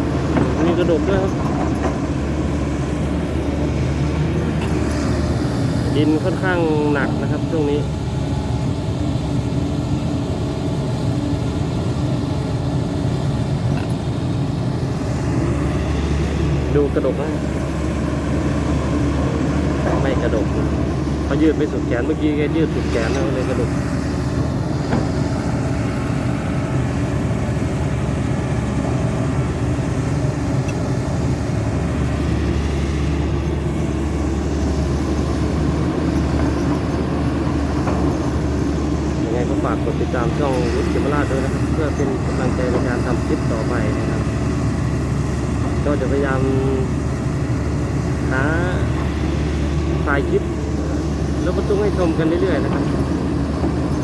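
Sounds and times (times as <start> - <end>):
excavator diesel engine under load: 0.0 - 54.0.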